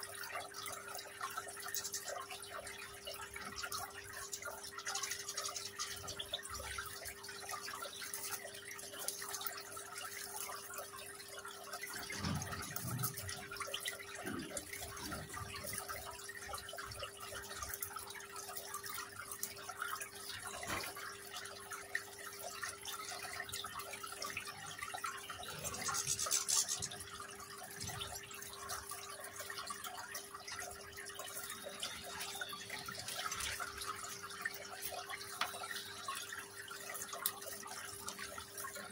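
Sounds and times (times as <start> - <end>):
fountain water trickling: 0.0 - 38.9.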